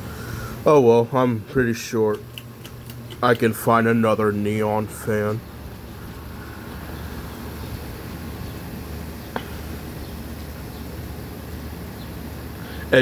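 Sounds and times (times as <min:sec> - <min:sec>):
ceiling fan click: 0:00.0 - 0:11.0
ceiling fan humming: 0:00.0 - 0:13.0.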